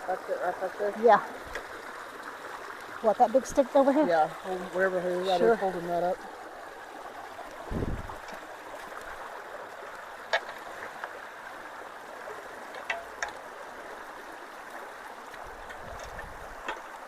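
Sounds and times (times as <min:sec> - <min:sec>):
water rushing through culvert: 0:00.0 - 0:17.0.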